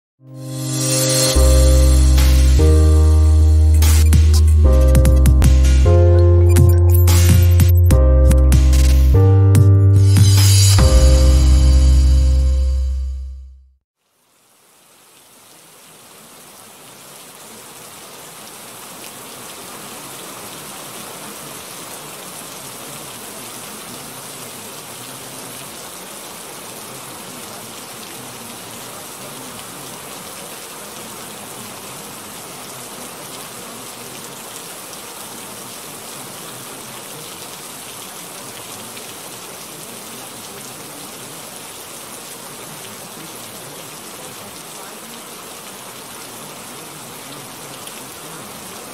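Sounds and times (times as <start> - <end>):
rain hissing: 0.4 - 7.6, 10.0 - 12.7, 14.0 - 48.9.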